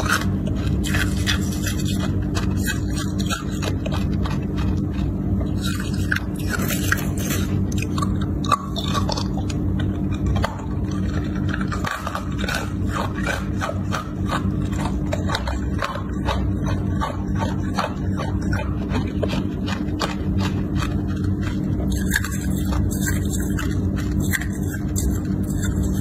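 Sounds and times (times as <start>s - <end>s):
ice crunching while chewed: 0.0s - 26.0s
low hum: 0.0s - 26.0s.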